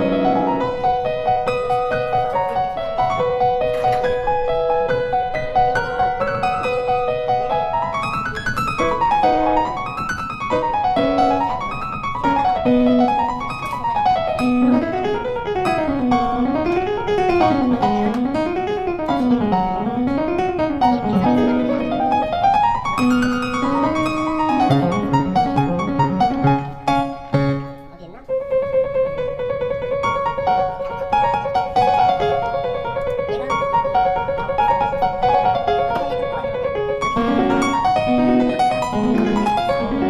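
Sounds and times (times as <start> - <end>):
piano arpeggios: 0.0 - 40.0.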